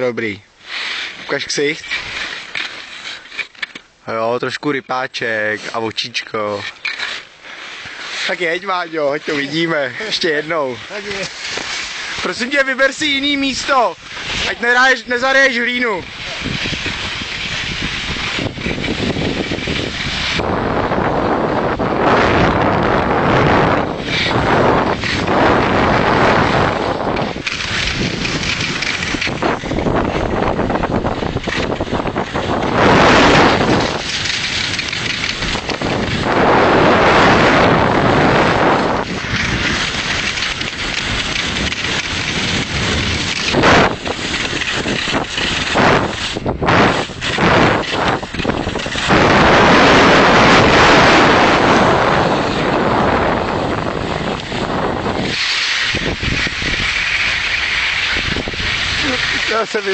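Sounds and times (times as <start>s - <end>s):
wind buffeting microphone: 8.7s - 59.9s.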